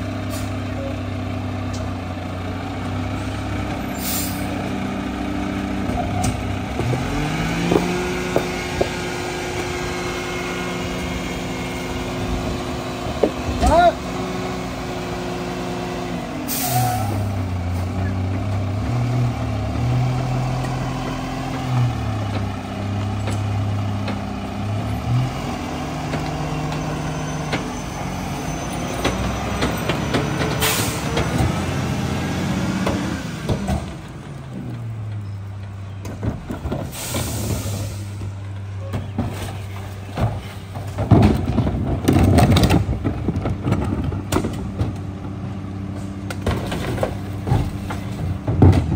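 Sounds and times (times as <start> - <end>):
garbage truck diesel engine revving: 0.0 - 48.9.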